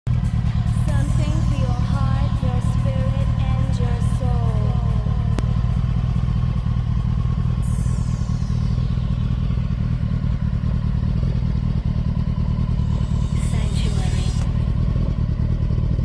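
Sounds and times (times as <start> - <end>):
motorcycle engine idling: 0.1 - 16.0.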